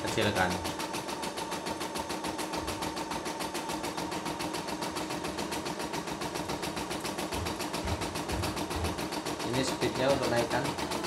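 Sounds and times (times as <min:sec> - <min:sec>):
machine motor hum: 0:00.0 - 0:11.0.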